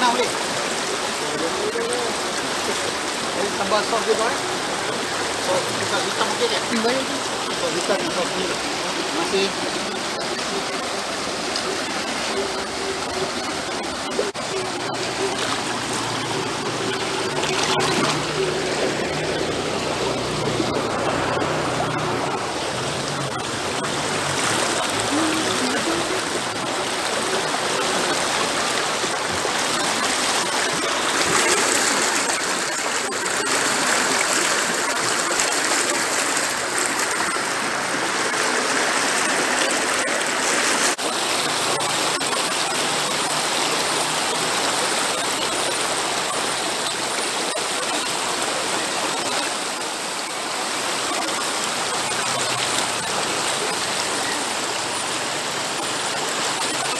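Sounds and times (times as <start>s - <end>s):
river flowing over stones: 0.0s - 56.9s.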